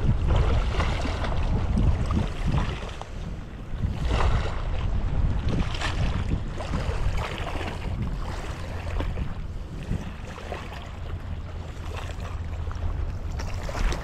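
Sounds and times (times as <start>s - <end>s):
waves lapping against rocks: 0.0s - 14.0s
wind buffeting microphone: 0.0s - 14.0s.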